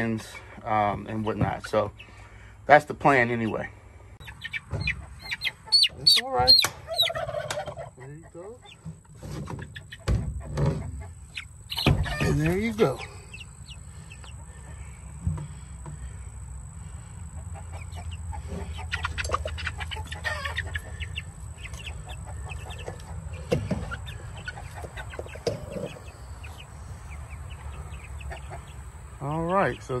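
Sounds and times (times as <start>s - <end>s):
chickens peeping and clucking: 0.0s - 30.0s.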